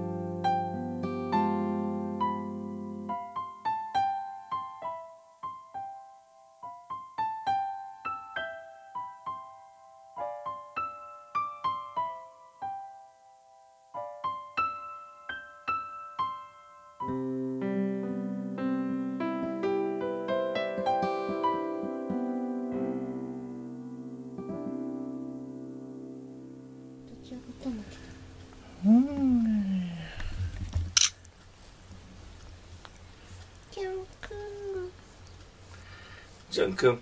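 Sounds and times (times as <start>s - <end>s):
slow piano melody: 0.0s - 30.4s, 31.4s - 37.0s.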